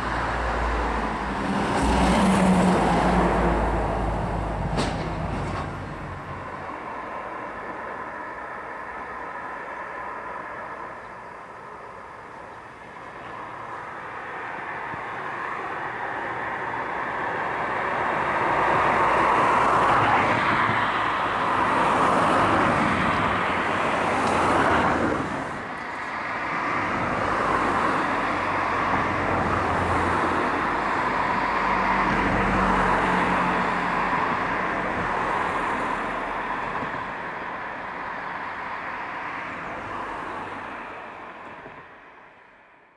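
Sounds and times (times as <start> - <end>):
cars passing: 0.0 - 42.9.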